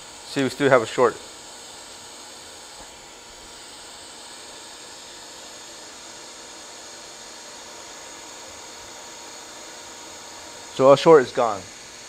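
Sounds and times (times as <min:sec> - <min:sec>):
steady airy hiss: 0:00.0 - 0:12.0.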